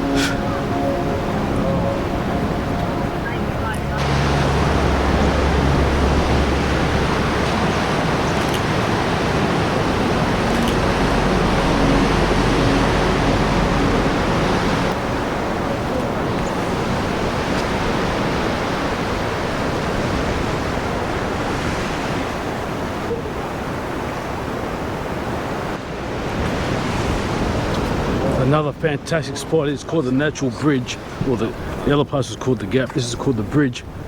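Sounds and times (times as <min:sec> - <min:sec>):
ocean waves against rocks: 0:00.0 - 0:34.0.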